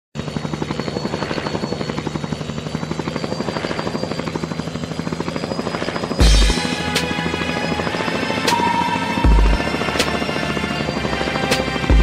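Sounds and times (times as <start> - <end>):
helicopter rotor blades beating: 0.2 - 12.0
high turbine whine: 0.2 - 12.0.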